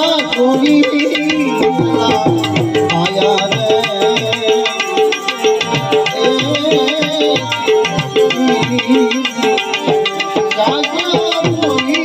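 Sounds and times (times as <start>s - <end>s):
tabla playing fast rhythm: 0.0s - 12.0s
wavering melodic line: 0.0s - 12.0s.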